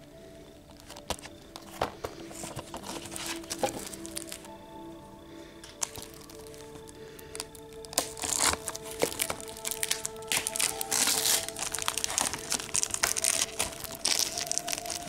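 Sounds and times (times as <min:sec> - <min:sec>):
plastic shrink wrap crinkling: 0:00.0 - 0:04.6, 0:05.5 - 0:15.0.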